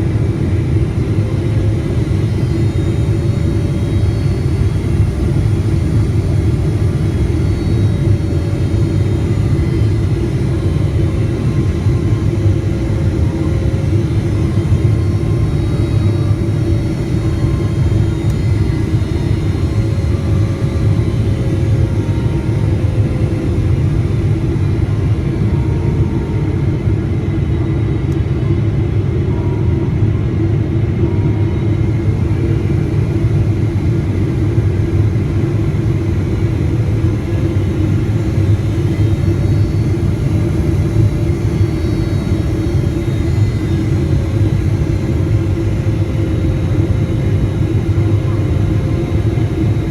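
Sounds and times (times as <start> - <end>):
airliner rumble in flight: 0.0 - 49.9.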